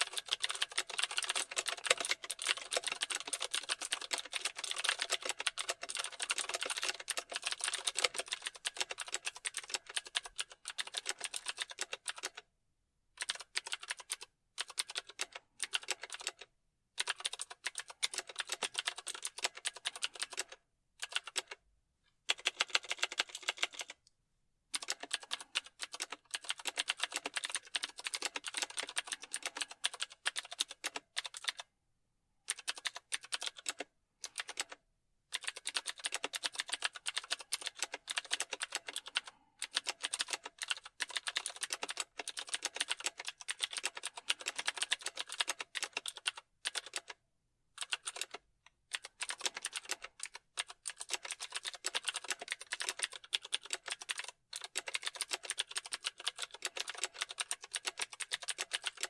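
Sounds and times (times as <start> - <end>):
fast typing on computer keyboard: 0.0 - 12.4, 13.2 - 21.6, 22.3 - 24.0, 24.7 - 31.7, 32.5 - 47.2, 47.8 - 59.0.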